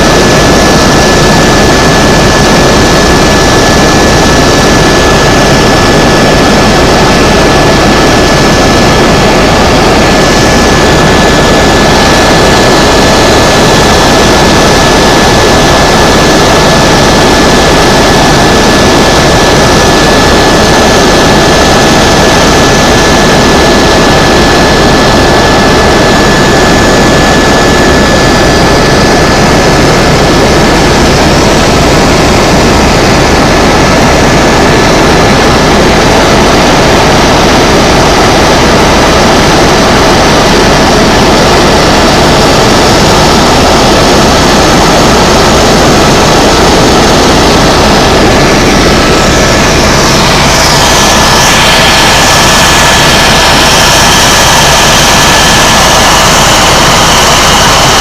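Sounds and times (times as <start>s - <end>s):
helicopter engine and rotor: 0.0s - 58.0s
high whine: 0.0s - 58.0s.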